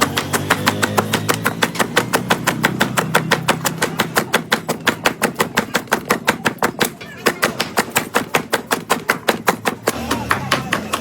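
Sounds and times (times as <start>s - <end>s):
rapid sharp taps: 0.0s - 11.0s.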